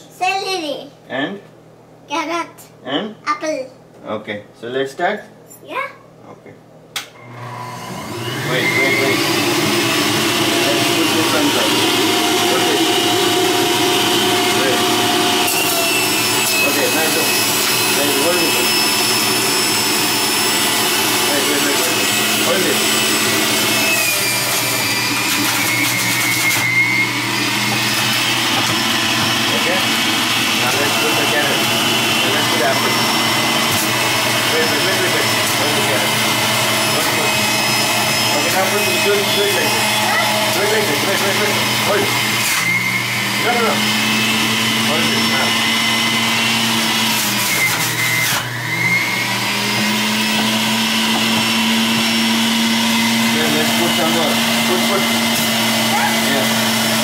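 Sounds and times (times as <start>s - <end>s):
juicer running: 7.0s - 57.0s.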